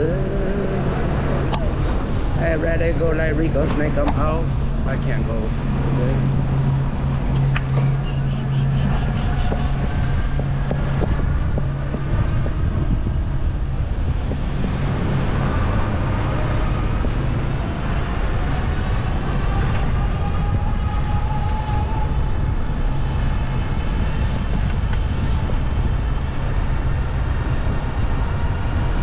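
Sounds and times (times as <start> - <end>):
city street traffic: 0.0 - 29.0
wind on microphone: 0.0 - 29.0.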